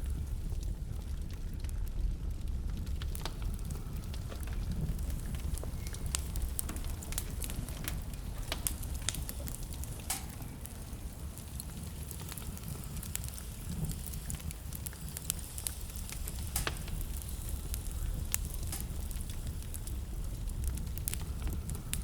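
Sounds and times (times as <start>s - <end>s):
low steady rumble: 0.0s - 22.0s
wood fire crackling: 0.0s - 22.0s.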